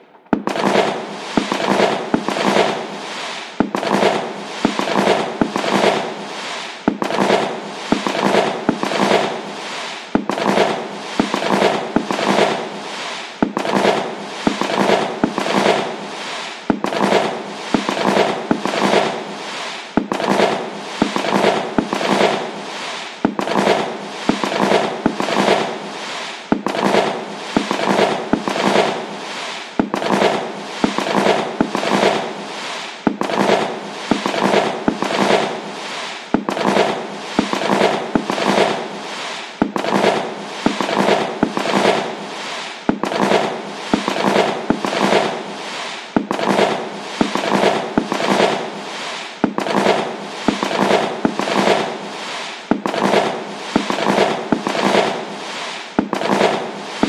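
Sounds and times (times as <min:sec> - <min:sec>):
fireworks crackling and popping: 0:00.0 - 0:57.0.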